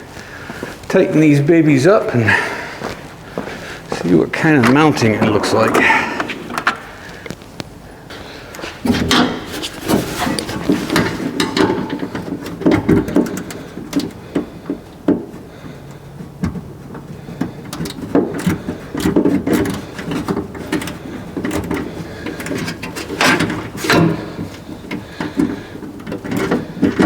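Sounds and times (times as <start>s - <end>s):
hand tools clicking and knocking: 2.3s - 7.4s, 8.1s - 27.0s.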